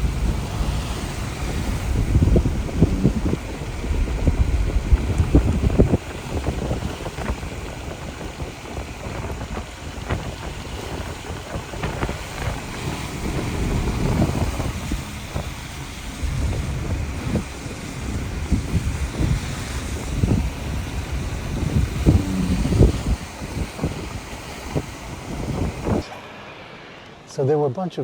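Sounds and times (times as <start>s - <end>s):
wind buffeting microphone: 0.0s - 26.1s.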